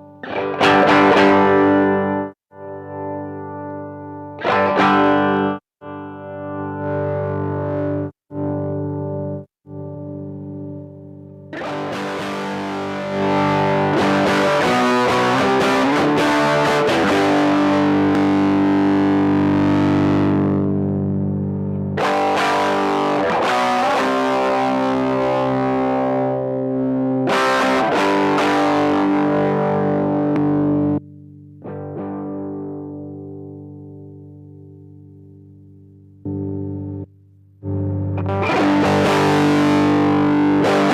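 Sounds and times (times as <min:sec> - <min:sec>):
distorted electric guitar strumming: 0:00.0 - 0:40.9.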